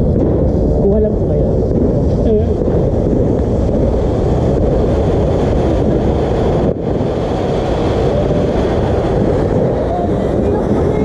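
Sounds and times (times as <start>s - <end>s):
firework fountain rushing: 0.0s - 11.0s.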